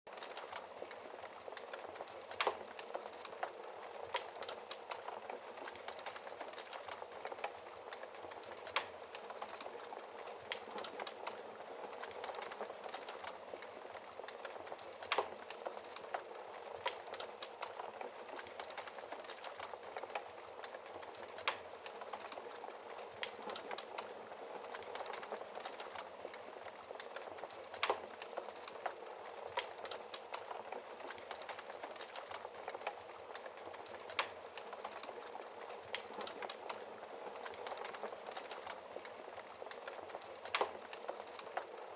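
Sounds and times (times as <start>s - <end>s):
wood fire crackling: 0.1s - 41.9s.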